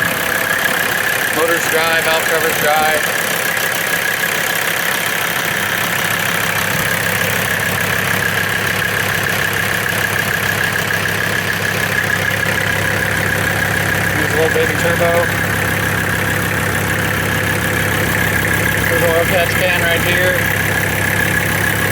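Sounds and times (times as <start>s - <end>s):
diesel engine idling with clatter: 0.0s - 21.9s
high engine whine: 0.0s - 21.9s.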